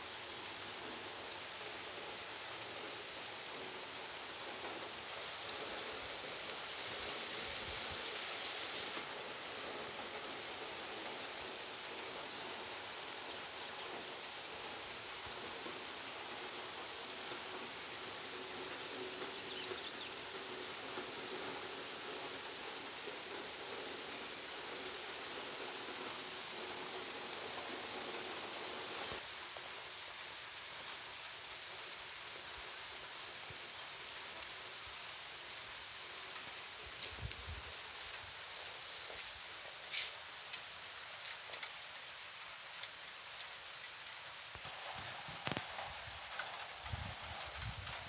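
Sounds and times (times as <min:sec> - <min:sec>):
rain falling on dirt and vegetation: 0:00.0 - 0:48.0.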